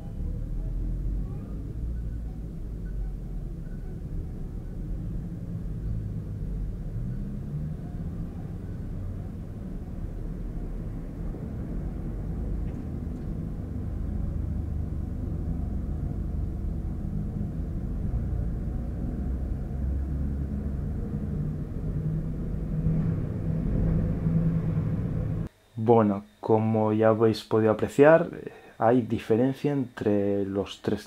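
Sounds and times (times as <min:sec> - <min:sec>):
low rumble of surrounding noise: 0:00.0 - 0:31.0.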